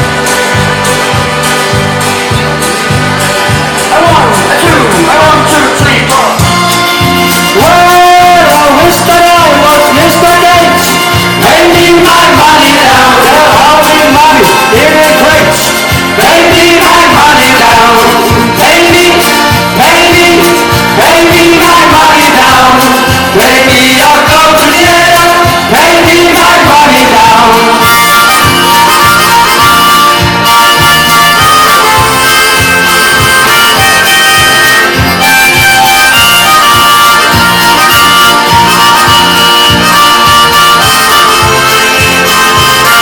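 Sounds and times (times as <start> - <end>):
live folk band music: 0.0 - 43.0.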